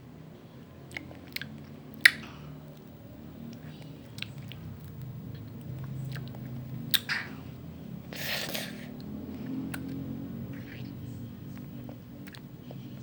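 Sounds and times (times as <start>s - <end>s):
wet chewing mouth sounds: 0.9s - 2.9s, 3.5s - 7.5s, 8.1s - 13.0s.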